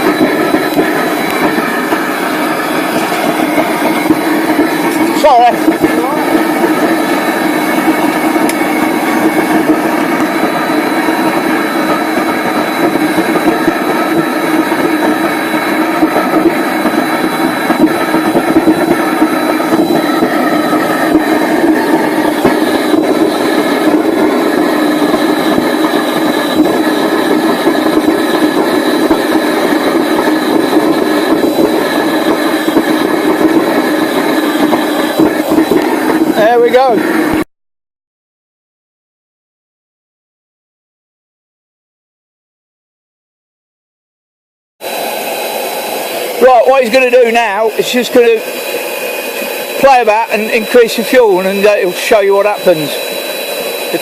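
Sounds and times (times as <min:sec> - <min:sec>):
furnace burner roaring: 0:00.0 - 0:37.5, 0:44.8 - 0:54.0.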